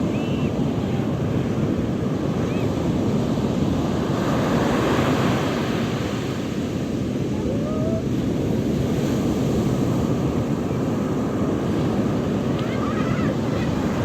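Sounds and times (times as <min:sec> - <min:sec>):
waves breaking on shore: 0:00.0 - 0:14.0.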